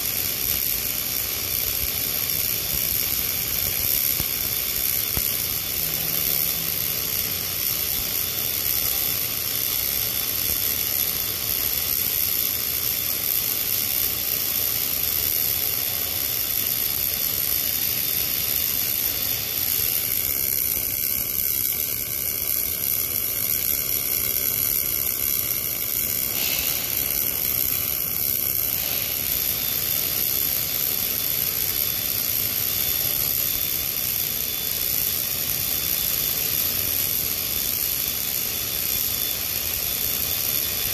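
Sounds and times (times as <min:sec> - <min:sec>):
welding hissing buzz: 0:00.0 - 0:40.9.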